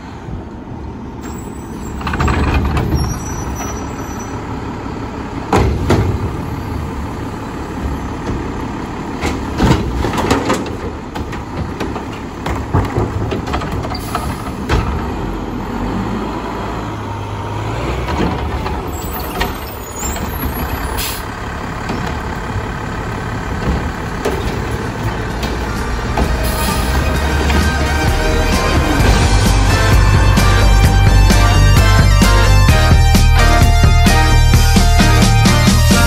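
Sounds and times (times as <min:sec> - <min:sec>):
garbage truck diesel engine rumbling: 0:00.0 - 0:36.0.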